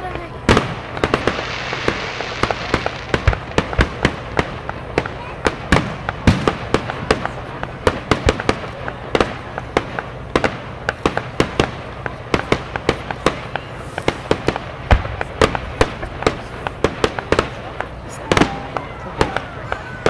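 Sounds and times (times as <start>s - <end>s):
deep fireworks boom: 0.0s - 20.0s
fireworks bangs and crackles: 0.0s - 20.0s.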